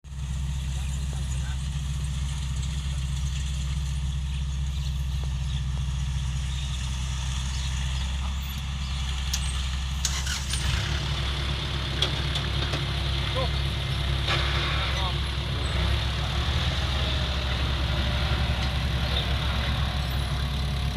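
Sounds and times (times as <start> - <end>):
harvester engine low drone: 0.0 - 20.9.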